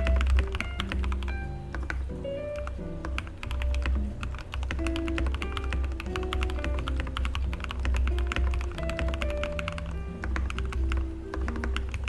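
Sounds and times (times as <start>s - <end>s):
background music: 0.0s - 12.0s
fast mechanical keyboard typing: 0.0s - 12.0s.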